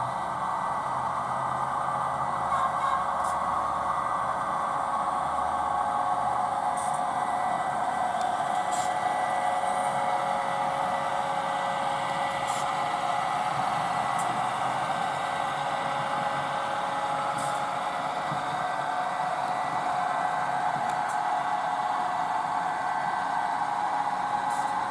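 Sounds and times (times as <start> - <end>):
model train motor whirring: 0.0 - 24.9.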